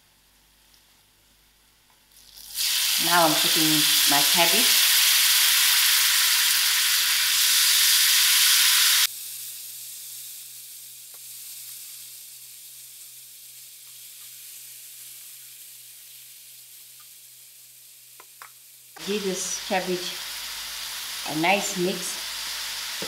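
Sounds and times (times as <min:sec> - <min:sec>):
cabbage sizzling in hot oil: 0:02.0 - 0:23.0.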